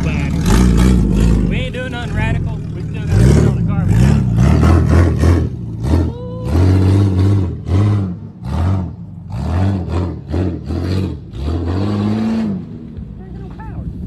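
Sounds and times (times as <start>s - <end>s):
engine revving in blips: 0.0s - 13.1s.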